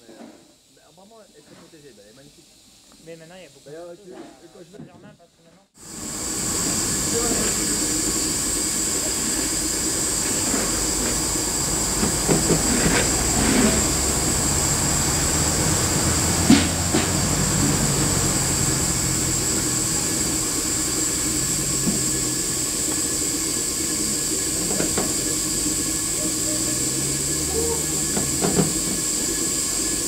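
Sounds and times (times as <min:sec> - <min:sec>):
steam locomotive hissing: 0:05.8 - 0:30.0.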